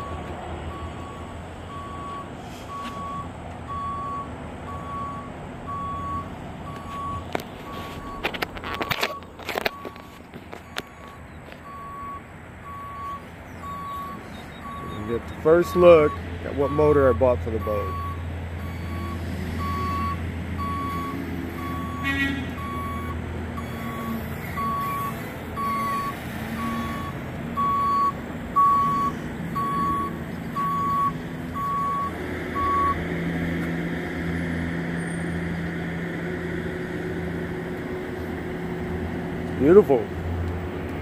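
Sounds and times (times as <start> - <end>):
reversing alarm beeping: 0.0 - 33.0.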